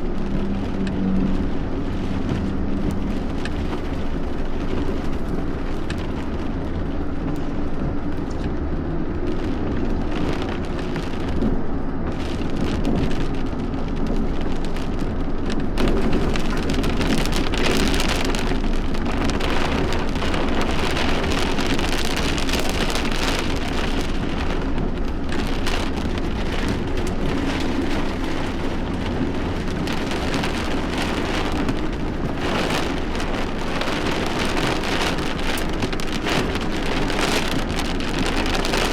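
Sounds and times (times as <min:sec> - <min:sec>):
constant low rumble: 0:00.0 - 0:38.9
heavy rain patter: 0:00.0 - 0:38.9.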